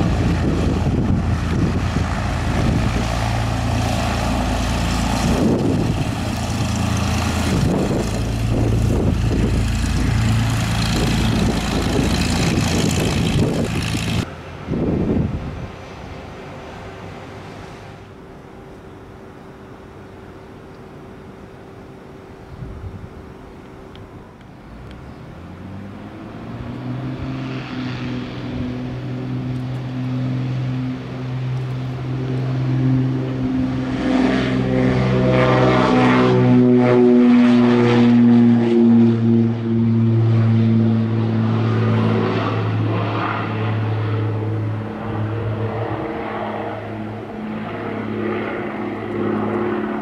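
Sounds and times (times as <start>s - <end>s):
twin-engine propeller plane taking off: 0.0s - 50.0s.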